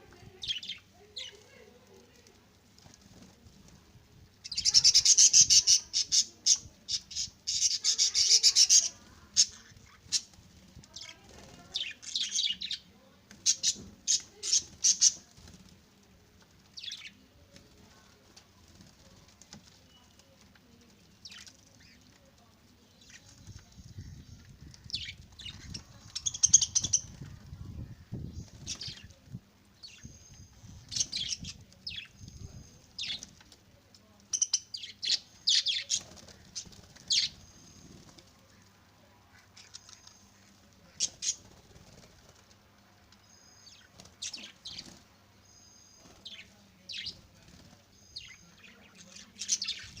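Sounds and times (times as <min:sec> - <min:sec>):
wings flapping and fluttering: 0:00.0 - 0:45.2, 0:46.0 - 0:50.0.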